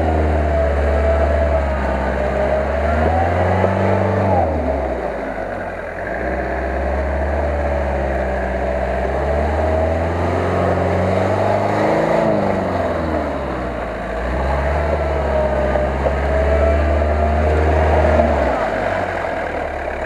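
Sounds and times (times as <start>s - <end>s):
off-road engine labouring: 0.0s - 20.0s.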